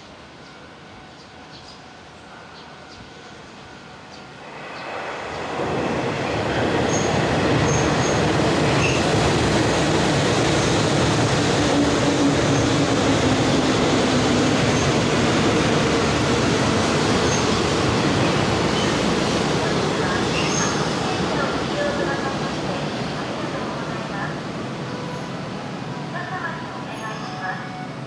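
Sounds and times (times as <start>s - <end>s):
electric train on rails: 0.0s - 28.0s.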